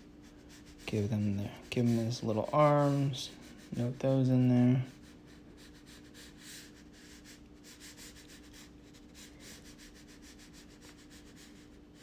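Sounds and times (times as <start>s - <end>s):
crayon scratching on paper: 0.0s - 12.0s
faint steady hum: 0.0s - 12.0s.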